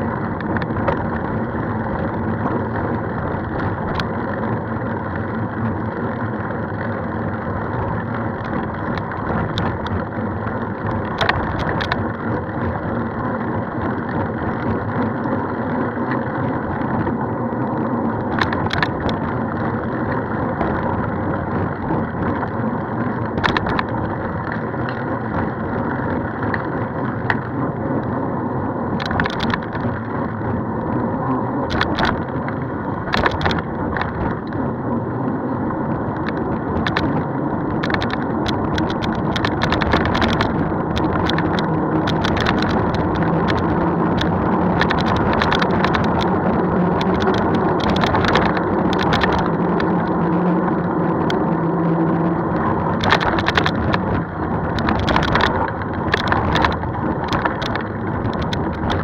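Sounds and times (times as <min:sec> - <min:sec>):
road noise: 0:00.0 - 0:59.0
wind noise: 0:00.0 - 0:59.0.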